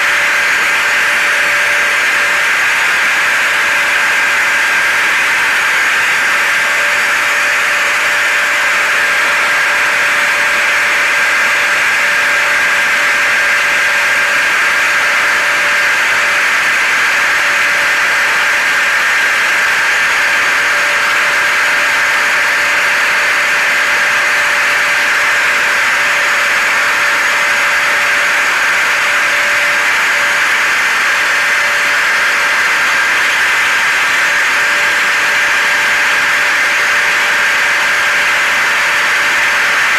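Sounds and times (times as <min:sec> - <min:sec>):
hair dryer: 0:00.0 - 0:39.9
vacuum cleaner: 0:00.0 - 0:39.9.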